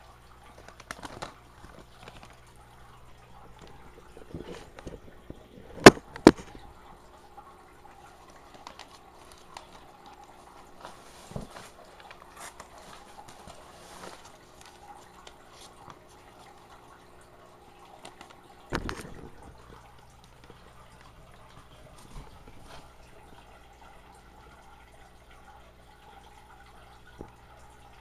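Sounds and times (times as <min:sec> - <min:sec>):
water trickling and bubbling: 0:00.0 - 0:28.0.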